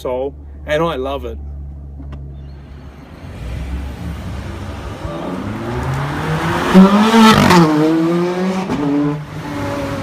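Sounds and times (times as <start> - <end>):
car engine accelerating: 1.5 - 10.0.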